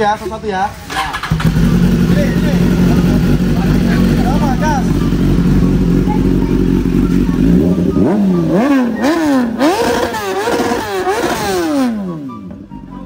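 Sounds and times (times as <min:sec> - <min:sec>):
motorcycle engine revving: 0:00.8 - 0:12.7.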